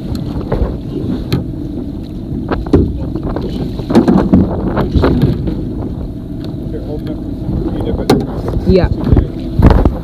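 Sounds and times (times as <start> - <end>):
knocks and thumps on boat: 0.0 - 10.0
wind buffeting microphone: 0.0 - 10.0.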